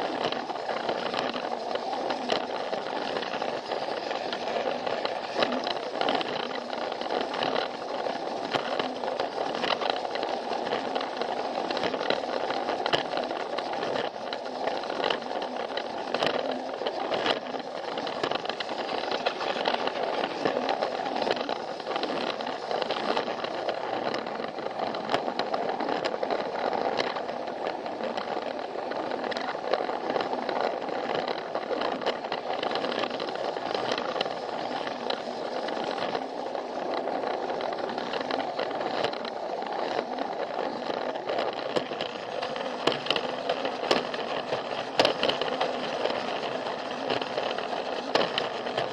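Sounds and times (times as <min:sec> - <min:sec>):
toy train motor whirring: 0:00.0 - 0:48.9
wheels clicking over plastic track: 0:00.0 - 0:48.9.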